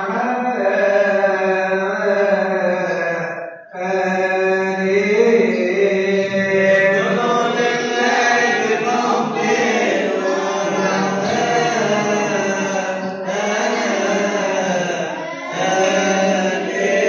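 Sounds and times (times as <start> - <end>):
voices chanting a hymn in unison: 0.0 - 17.0.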